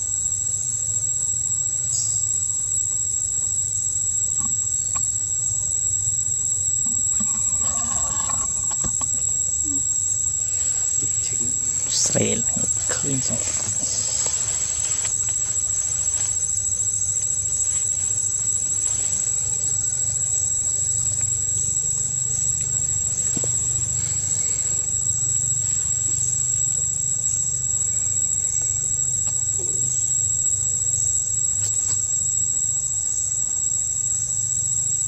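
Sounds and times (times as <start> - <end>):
insects droning: 0.0 - 35.0
faint regular pulsing: 1.7 - 31.9.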